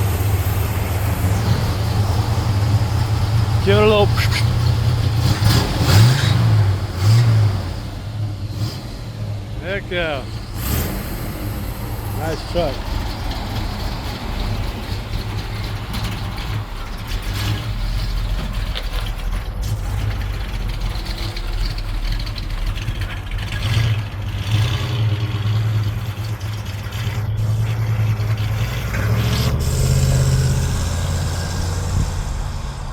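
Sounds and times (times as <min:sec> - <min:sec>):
pickup truck engine running: 0:00.0 - 0:32.9.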